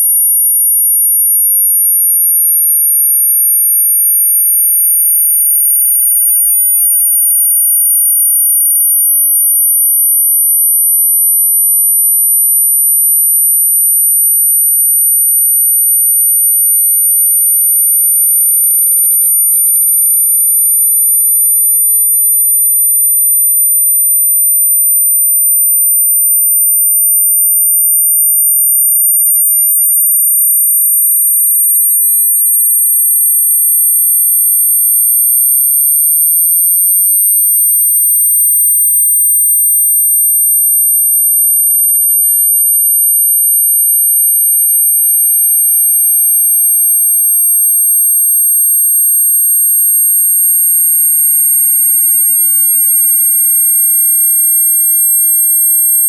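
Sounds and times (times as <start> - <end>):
high sine test tones: 0.0 - 56.0.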